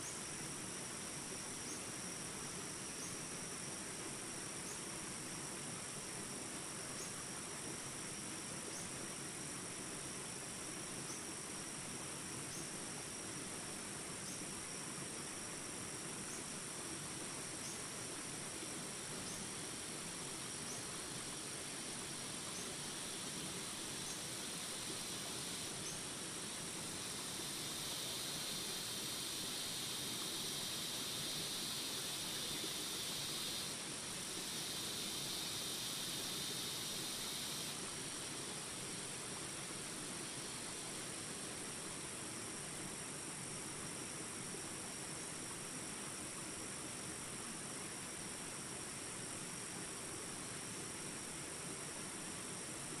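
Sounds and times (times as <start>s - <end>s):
insects trilling: 0.0s - 42.7s.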